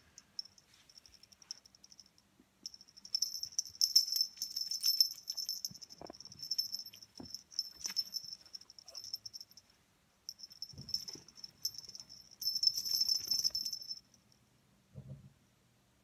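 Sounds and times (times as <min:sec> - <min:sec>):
small collar bell jingling: 0:00.1 - 0:09.7, 0:10.3 - 0:14.2.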